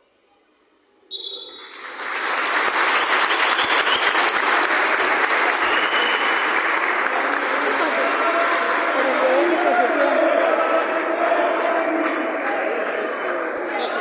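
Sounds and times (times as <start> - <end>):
crowd clapping and cheering: 1.4 - 14.0.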